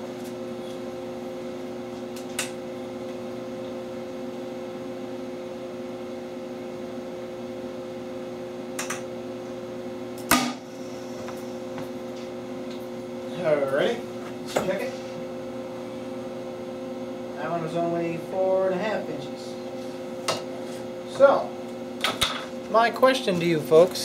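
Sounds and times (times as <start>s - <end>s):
electrical equipment hum: 0.0s - 24.0s.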